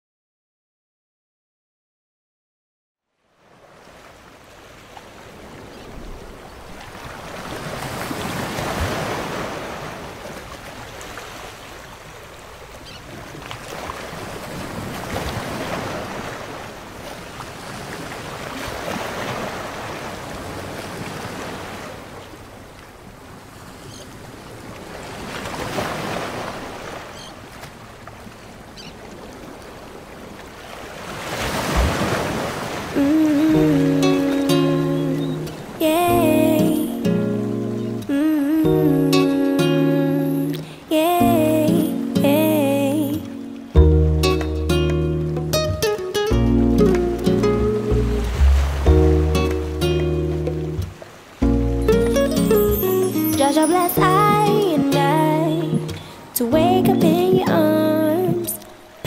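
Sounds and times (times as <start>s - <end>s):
sea waves washing onto shore: 3.4s - 59.0s.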